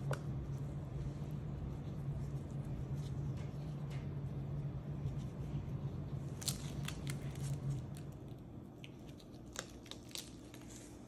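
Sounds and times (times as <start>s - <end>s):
bread crust crackling: 0.1s - 11.0s.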